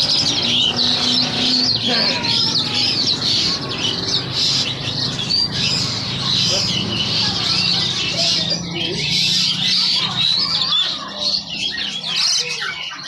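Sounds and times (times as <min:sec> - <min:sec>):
caged songbirds chirping: 0:00.0 - 0:13.0.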